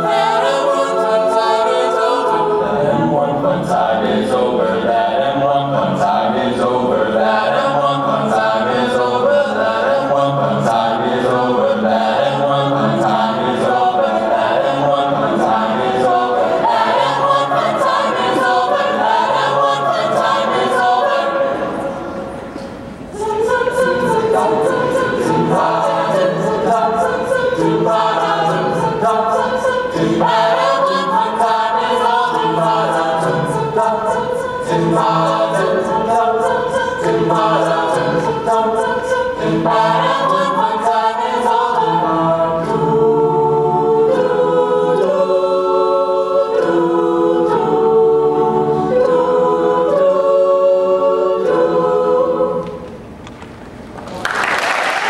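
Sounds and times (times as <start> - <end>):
a cappella group singing: 0.0 - 53.2.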